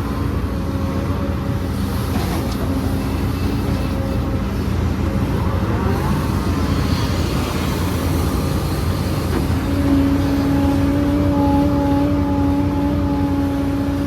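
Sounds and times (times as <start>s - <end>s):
heavy machinery low rumble: 0.0s - 14.0s
steady engine tone: 0.0s - 14.0s.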